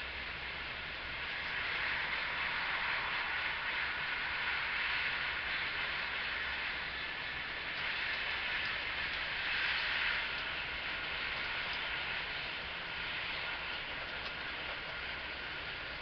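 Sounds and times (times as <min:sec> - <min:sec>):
train interior rushing rumble: 0:00.0 - 0:16.0.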